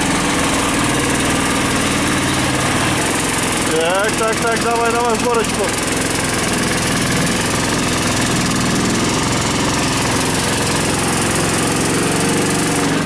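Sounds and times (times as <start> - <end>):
vehicle engine running under load: 0.0 - 13.0.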